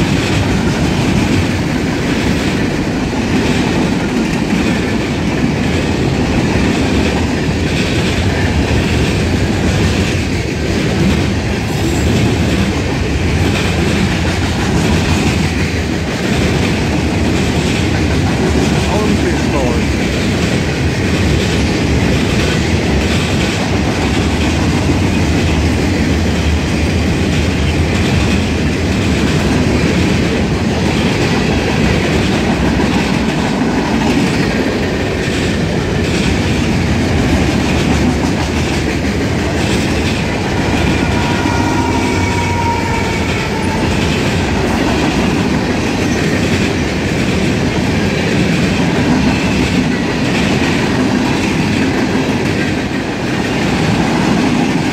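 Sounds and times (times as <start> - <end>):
clickety-clack over rail joints: 0.0 - 54.9
train wheels rumbling on rails: 0.0 - 54.9.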